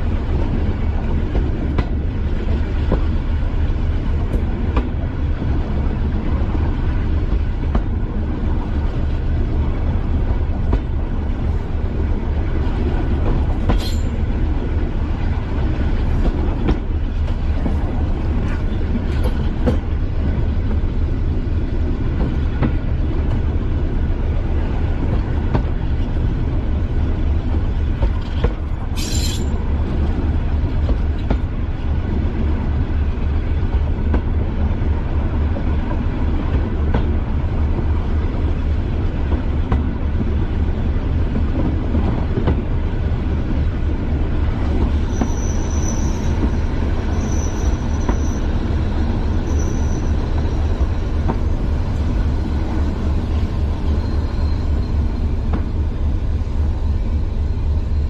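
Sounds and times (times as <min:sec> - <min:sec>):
diesel train engine thumping: 0:00.0 - 0:58.0.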